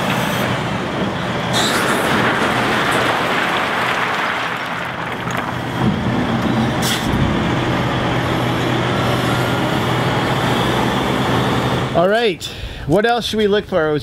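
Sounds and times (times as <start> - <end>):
truck engine drone: 0.0 - 12.8.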